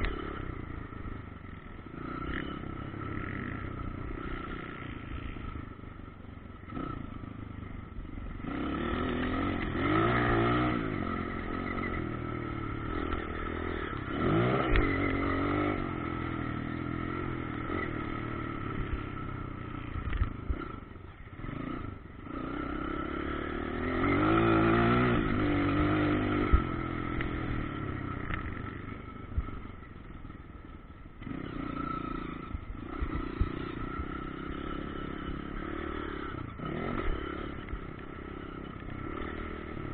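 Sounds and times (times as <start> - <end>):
motocross bike engines revving: 0.0 - 30.3, 31.1 - 39.9.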